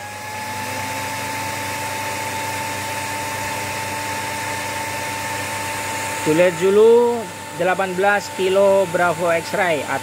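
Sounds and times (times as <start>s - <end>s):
cooling fans whooshing with whine: 0.0s - 10.0s.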